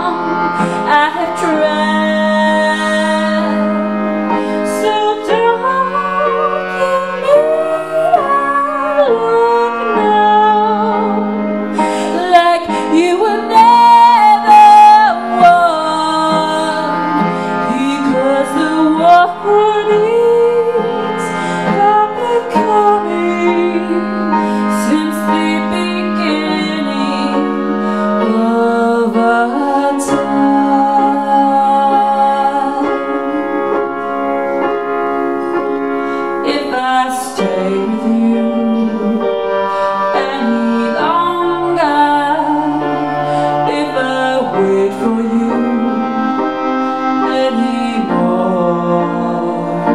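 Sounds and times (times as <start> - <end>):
clarinet melody: 0.0 - 49.9
piano chords: 0.0 - 49.9.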